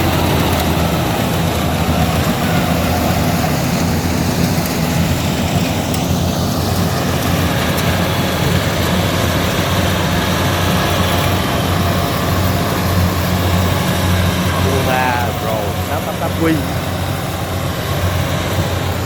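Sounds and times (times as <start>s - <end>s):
combine harvester engine drone: 0.0s - 19.0s
threshing machinery hiss: 0.0s - 19.0s.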